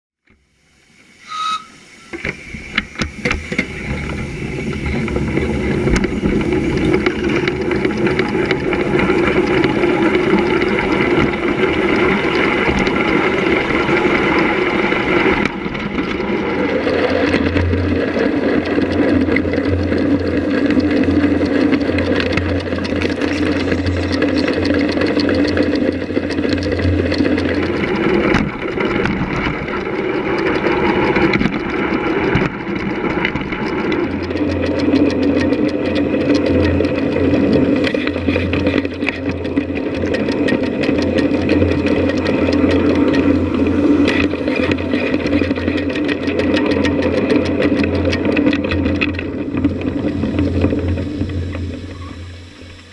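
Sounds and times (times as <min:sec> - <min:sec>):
low hum: 0:00.3 - 0:52.9
miniature steam locomotive running: 0:00.3 - 0:52.9.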